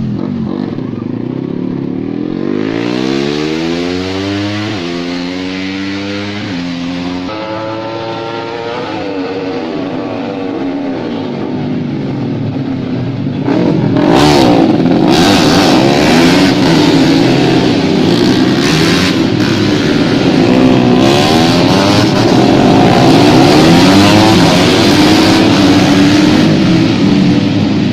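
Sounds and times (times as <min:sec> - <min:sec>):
racing motorcycle engines revving: 0:00.0 - 0:27.9.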